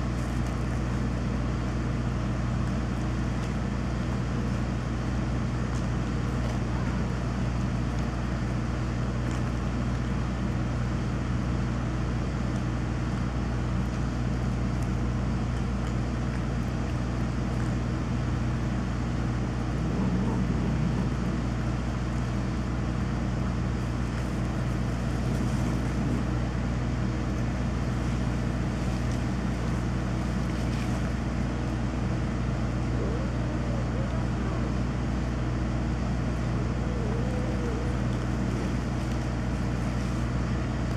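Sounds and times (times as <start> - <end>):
electrical transformer humming: 0.0 - 40.9.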